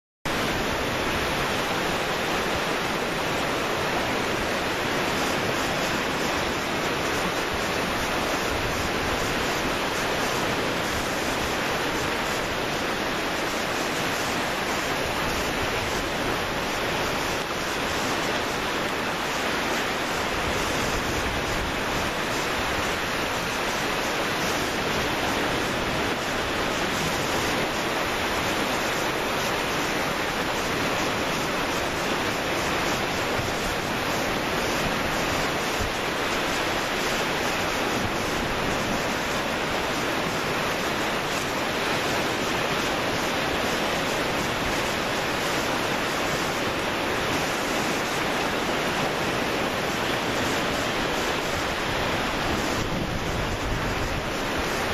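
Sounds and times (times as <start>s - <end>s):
sea surf washing in: 0.3s - 54.9s.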